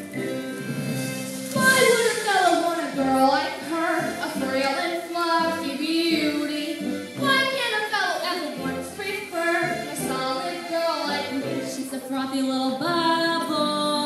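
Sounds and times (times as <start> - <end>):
musical accompaniment with bass: 0.0 - 14.0
woman singing into microphone: 0.1 - 14.0.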